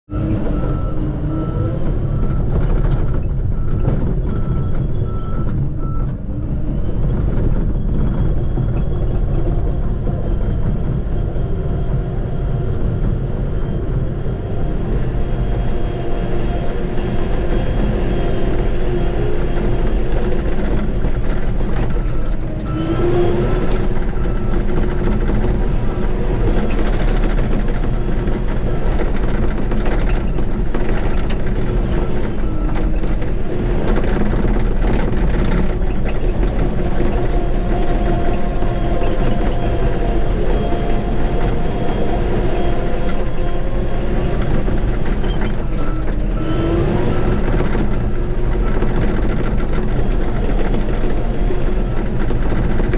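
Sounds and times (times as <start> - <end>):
bulldozer diesel engine running: 0.1 - 52.9.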